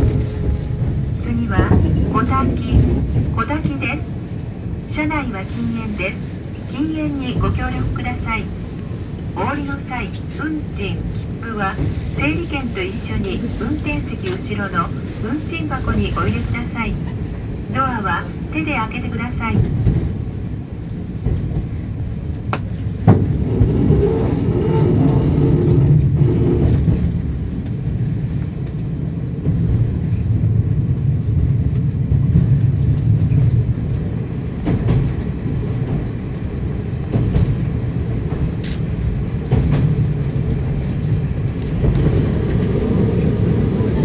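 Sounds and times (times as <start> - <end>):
rumble of wheels on rail: 0.0 - 44.0.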